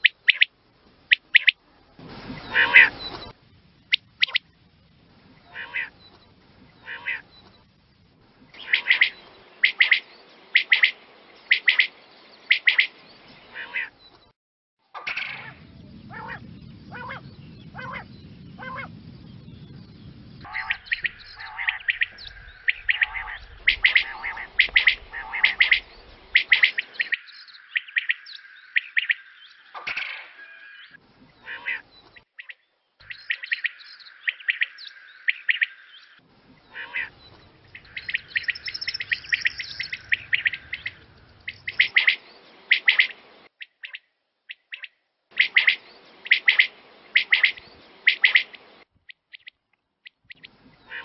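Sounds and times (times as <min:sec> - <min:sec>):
quail calling: 0:00.0 - 0:00.5, 0:01.1 - 0:01.6, 0:02.4 - 0:04.5, 0:05.4 - 0:06.1, 0:06.8 - 0:07.4, 0:08.6 - 0:14.0, 0:15.0 - 0:19.0, 0:20.4 - 0:48.6, 0:49.3 - 0:51.0.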